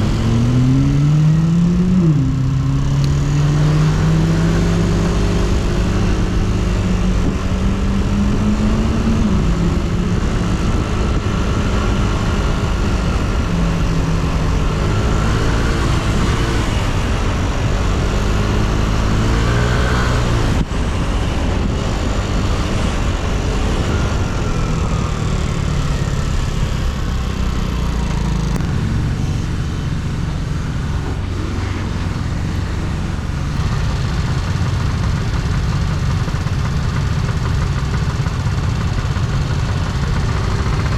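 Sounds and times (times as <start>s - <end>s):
road and wind noise: 0.0s - 40.9s
scooter engine revving: 0.0s - 40.9s.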